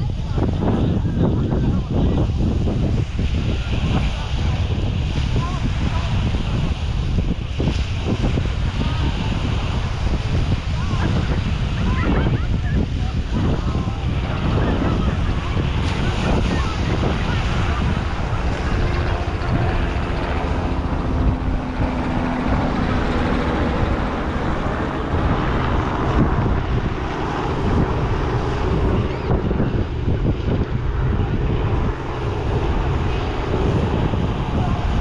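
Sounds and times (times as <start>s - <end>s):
surf washing: 0.0s - 35.0s
wind buffeting microphone: 0.0s - 35.0s.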